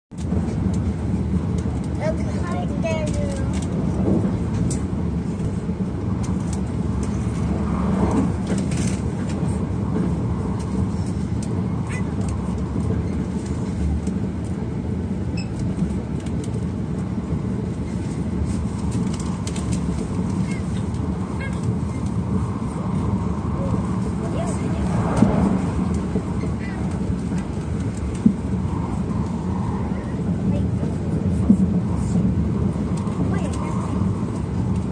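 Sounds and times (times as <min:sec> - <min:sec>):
train running rumble: 0:00.1 - 0:34.9.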